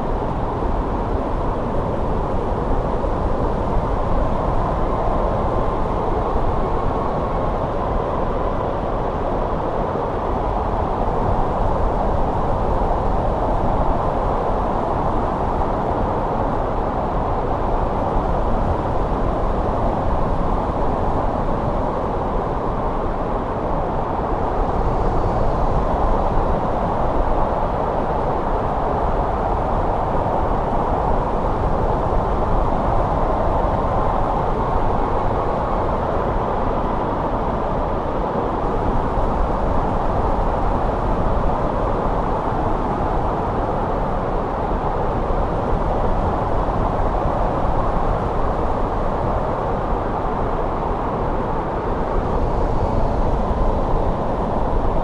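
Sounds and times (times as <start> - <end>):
steady wind rushing: 0.0 - 55.0.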